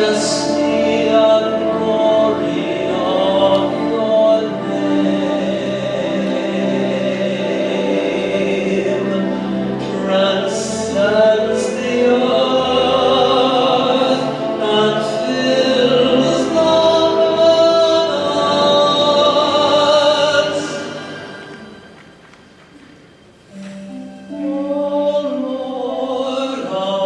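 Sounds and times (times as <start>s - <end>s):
man singing with vibrato: 0.0s - 21.5s, 23.5s - 27.0s
sustained instrumental accompaniment: 0.0s - 27.0s.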